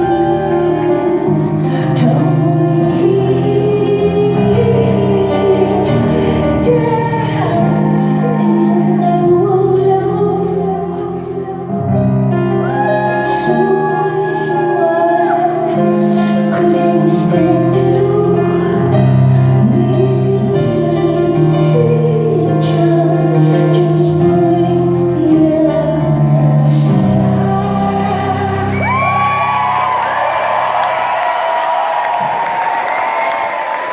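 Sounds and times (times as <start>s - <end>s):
woman singing: 0.0s - 30.0s.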